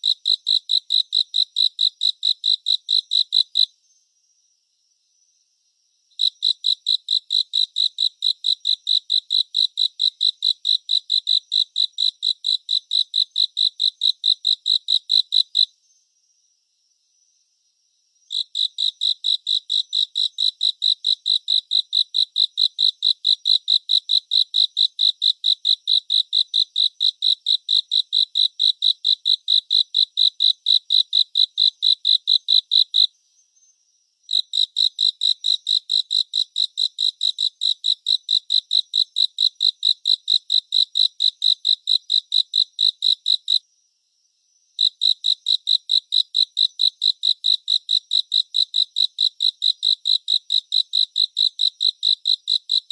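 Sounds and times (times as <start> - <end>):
cricket chirping: 0.0 - 52.9.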